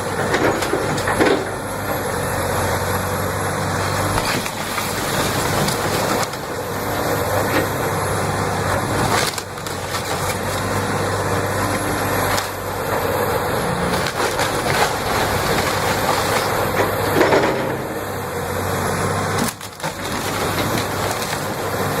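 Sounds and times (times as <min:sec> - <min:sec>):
crunching and cracking debris: 0:00.0 - 0:02.0, 0:03.7 - 0:18.1, 0:19.2 - 0:22.0
heavy truck running: 0:00.0 - 0:22.0.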